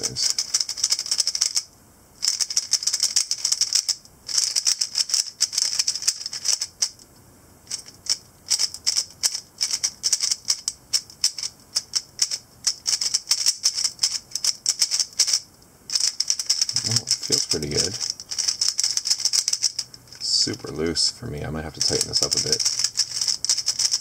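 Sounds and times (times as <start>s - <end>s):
plastic cube clicking: 0.4s - 1.7s, 2.3s - 6.9s, 7.7s - 19.9s, 21.8s - 24.0s.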